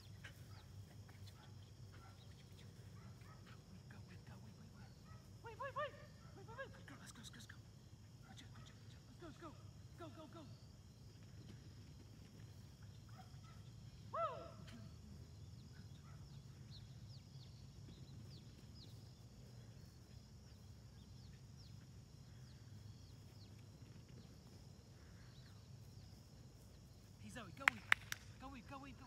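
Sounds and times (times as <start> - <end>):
small birds chirping: 0.0 - 29.0
steady low hum: 0.0 - 29.0.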